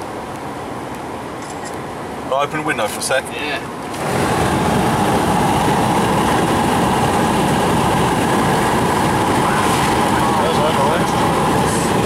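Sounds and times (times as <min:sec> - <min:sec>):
wind and road noise in car: 0:00.0 - 0:12.0.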